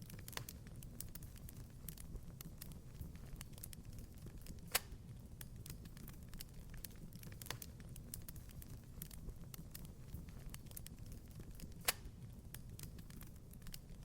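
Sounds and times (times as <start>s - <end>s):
wood fire crackling: 0.0s - 14.0s
sharp fire pops: 0.1s - 13.8s.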